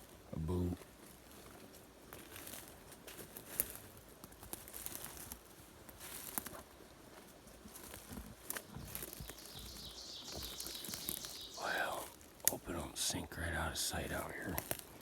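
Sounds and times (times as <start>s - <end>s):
footsteps through brush: 0.0s - 15.0s.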